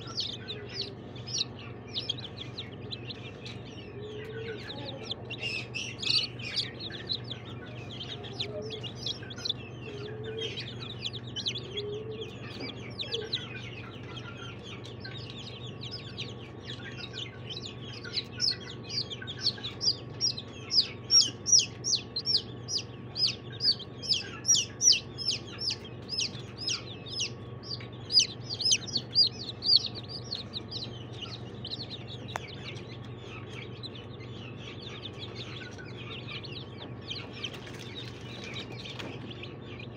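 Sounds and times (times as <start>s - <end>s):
chicks peeping: 0.0s - 39.9s
low steady hum: 0.0s - 39.9s.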